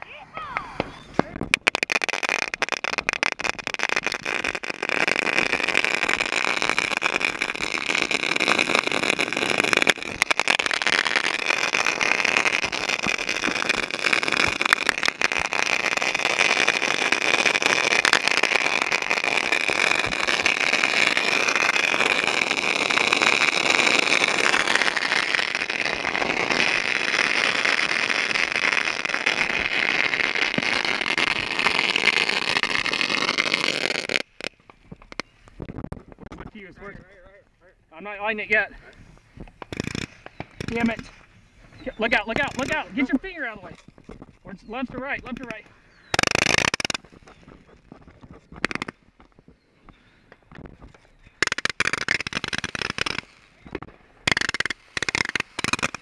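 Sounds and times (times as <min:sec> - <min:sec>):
fireworks crackles: 0:00.0 - 0:56.0
fireworks spraying sparks hiss: 0:00.6 - 0:35.7, 0:39.2 - 0:43.5, 0:46.1 - 0:47.7, 0:51.4 - 0:56.0.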